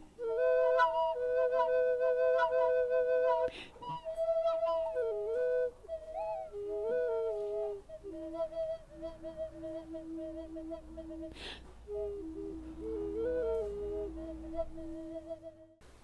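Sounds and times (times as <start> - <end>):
double-pipe nose flute playing: 0.0 - 15.8.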